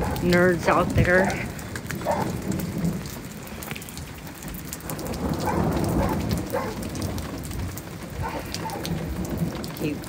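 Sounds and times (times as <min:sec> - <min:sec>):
low rolling thunder: 0:00.0 - 0:10.0
rain falling: 0:00.0 - 0:10.0.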